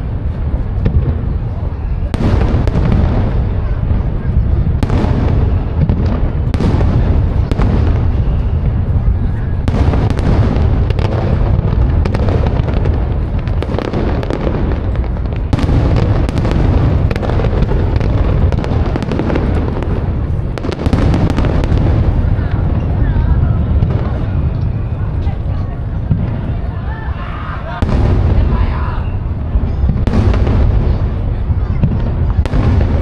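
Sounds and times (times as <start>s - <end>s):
fireworks bursting: 0.0s - 26.9s, 27.6s - 33.0s.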